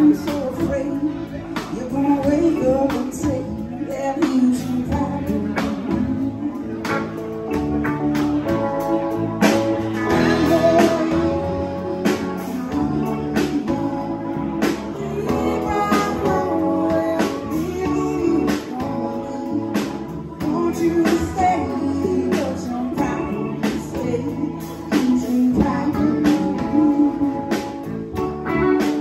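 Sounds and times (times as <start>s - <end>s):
man singing: 0.0s - 7.7s, 8.4s - 29.0s
electric guitar: 0.0s - 29.0s
keyboard: 0.0s - 29.0s
drum kit beat: 4.2s - 29.0s.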